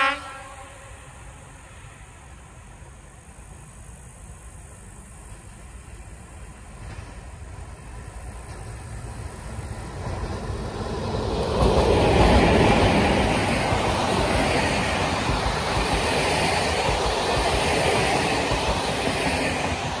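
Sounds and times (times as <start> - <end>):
train passing close by: 0.0 - 20.0.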